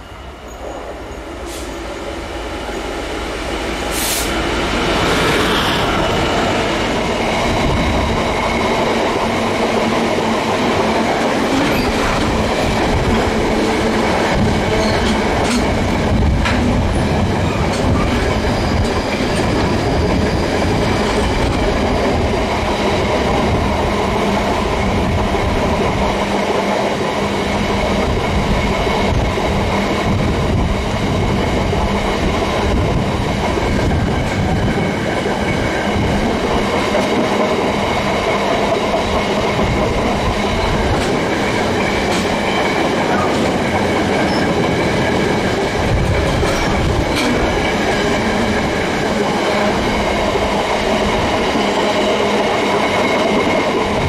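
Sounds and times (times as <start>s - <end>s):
train wheels rumbling and clacking: 0.0s - 54.0s.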